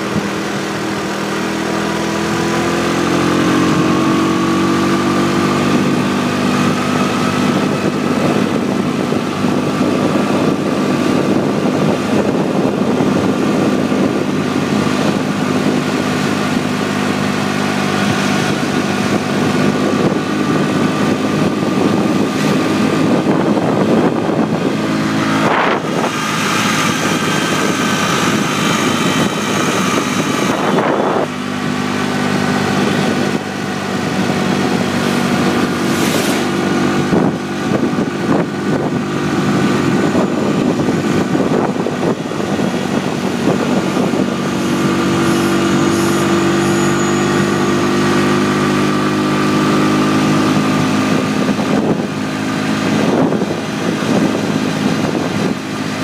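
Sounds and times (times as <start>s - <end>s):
motorbike engine running: 0.0s - 56.0s
wind rushing over microphone: 0.0s - 56.0s.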